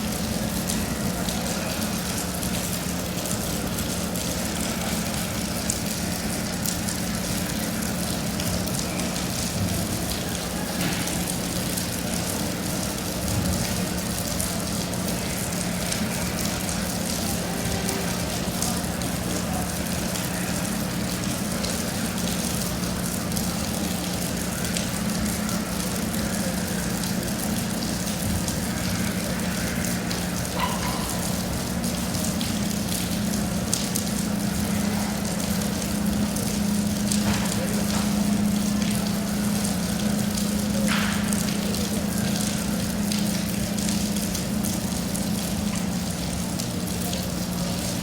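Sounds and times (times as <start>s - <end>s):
rain falling: 0.0s - 48.0s.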